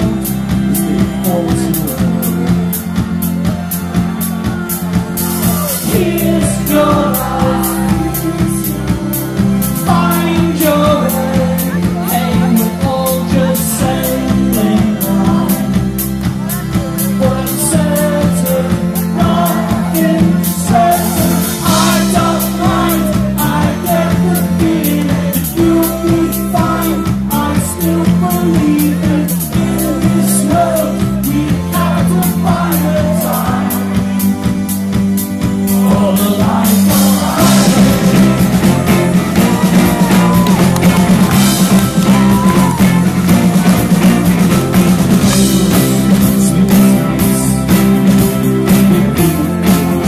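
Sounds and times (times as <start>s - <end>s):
live pop-rock band: 0.0s - 50.0s.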